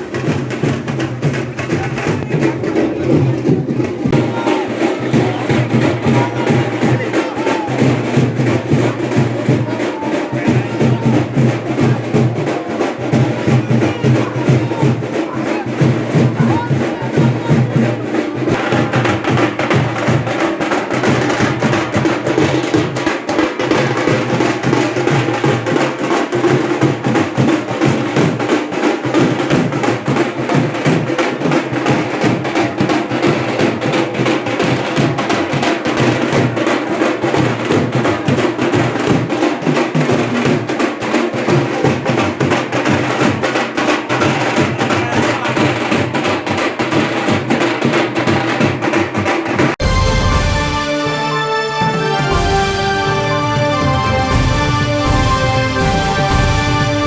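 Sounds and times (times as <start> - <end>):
loud drum-driven music: 0.0 - 57.0.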